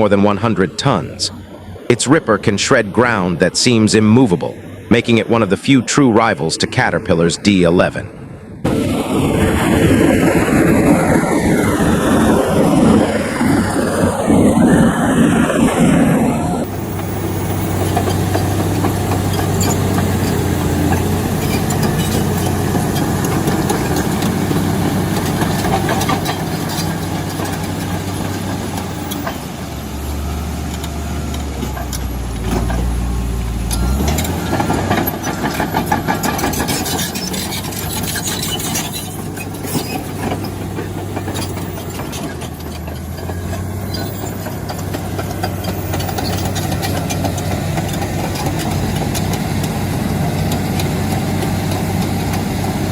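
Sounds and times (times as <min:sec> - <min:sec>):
bulldozer diesel engine humming: 0:00.0 - 0:52.9.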